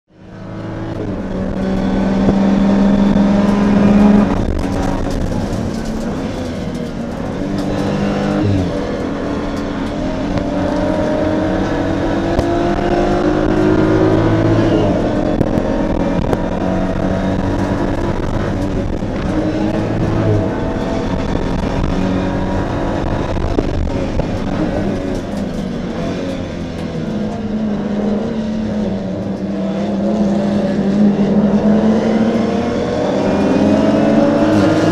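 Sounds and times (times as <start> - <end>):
road and wind noise: 0.1 - 34.9
race car engine revving: 0.2 - 34.9.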